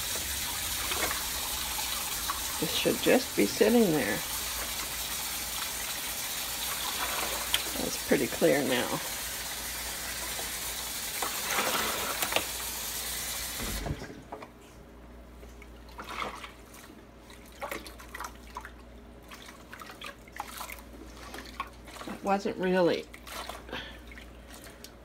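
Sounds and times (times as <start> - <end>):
water dripping and splashing: 0.0 - 13.9, 15.4 - 25.0.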